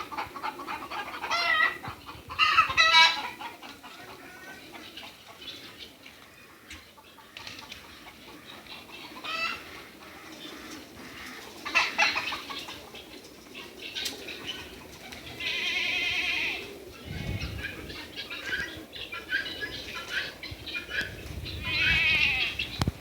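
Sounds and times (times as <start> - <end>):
poultry squawking: 0.0 - 22.9.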